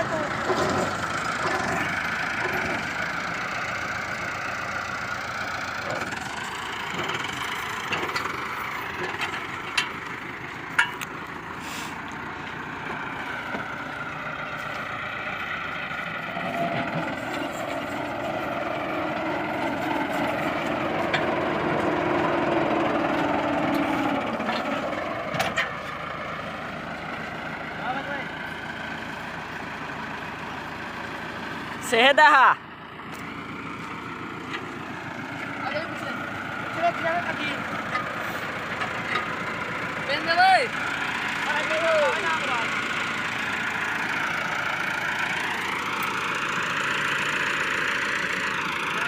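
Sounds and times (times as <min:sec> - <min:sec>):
heavy machine engine running: 0:00.0 - 0:49.0.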